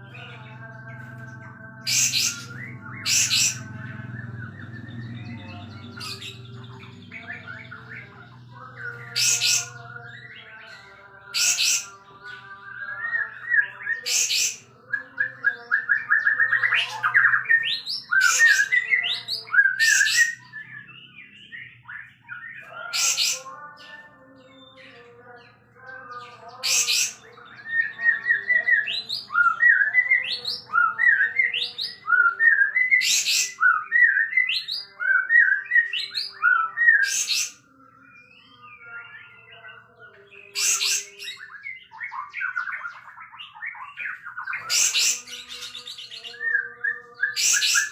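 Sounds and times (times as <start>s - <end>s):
bird singing trilled notes: 0.0s - 47.9s.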